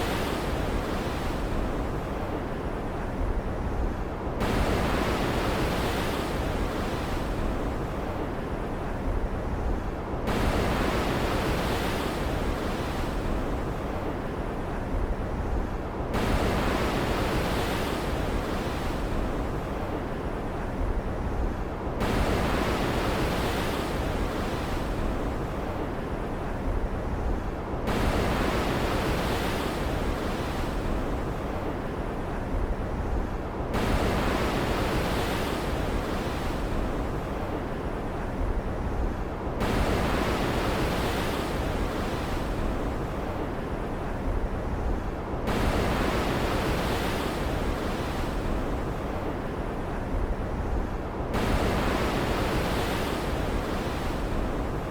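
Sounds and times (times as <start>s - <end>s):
stormy ocean surf: 0.0s - 54.9s.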